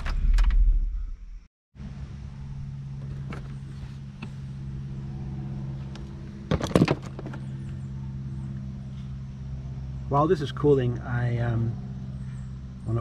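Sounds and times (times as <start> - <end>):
low mechanical engine hum: 0.0 - 13.0.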